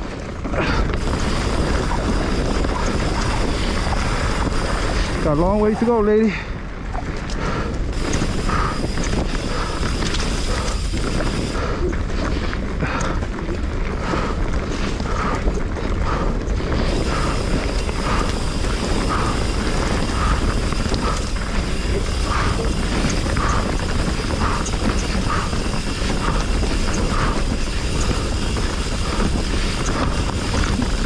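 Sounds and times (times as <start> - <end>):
mountain bike rumbling and rattling: 0.0 - 31.0
wind buffeting microphone: 0.0 - 31.0.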